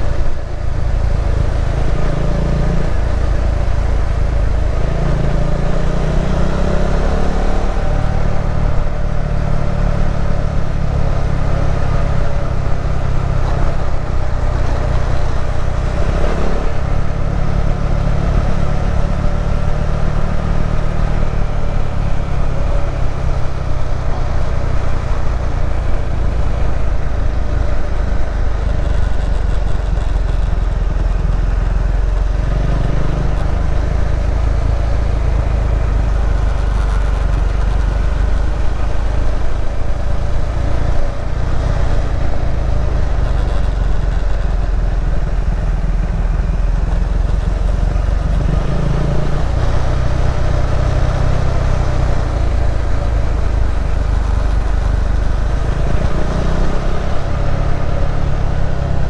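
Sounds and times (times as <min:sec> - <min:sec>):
motorcycle engine revving: 0:00.8 - 0:59.0.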